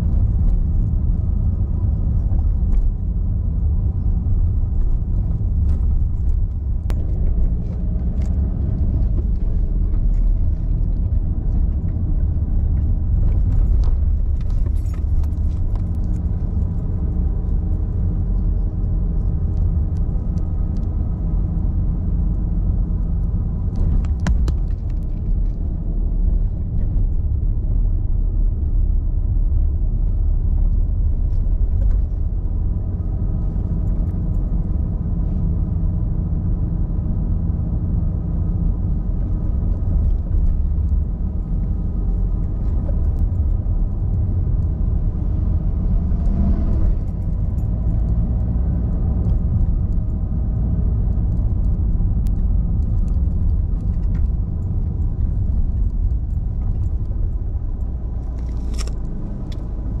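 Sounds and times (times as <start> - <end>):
car road rumble: 0.0 - 60.0.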